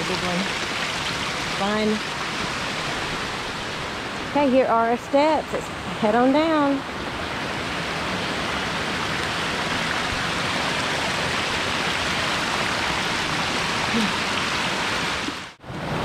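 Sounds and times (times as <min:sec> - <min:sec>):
stream cascading over rocks: 0:00.0 - 0:16.0.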